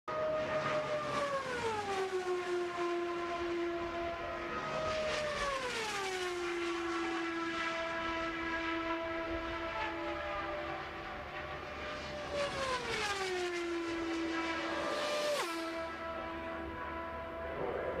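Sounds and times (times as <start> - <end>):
race car passing at high speed: 0.1 - 18.0.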